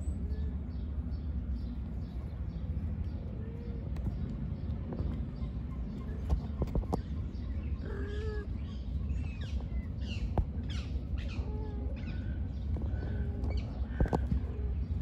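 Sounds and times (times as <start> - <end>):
low outdoor rumble: 0.0 - 15.0
wild birds chirping: 0.0 - 15.0.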